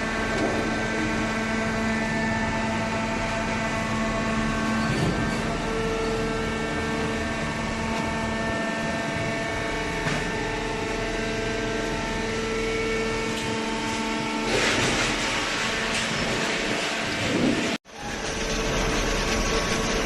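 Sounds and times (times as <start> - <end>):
hydraulic machine humming and whining: 0.0 - 20.0.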